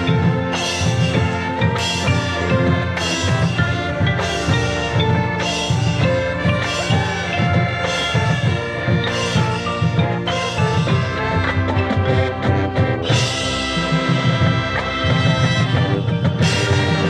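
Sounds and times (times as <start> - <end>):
brass and wind chords: 0.0 - 17.0
drumline percussion: 0.0 - 17.0.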